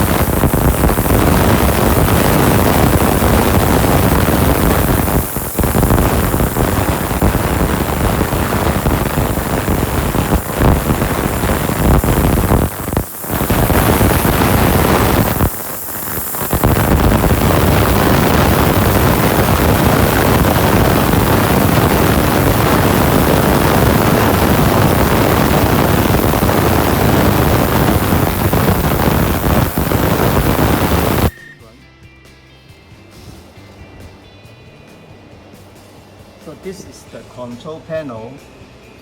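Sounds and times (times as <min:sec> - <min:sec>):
ultrasonic cleaner hissing: 0:00.0 - 0:31.3.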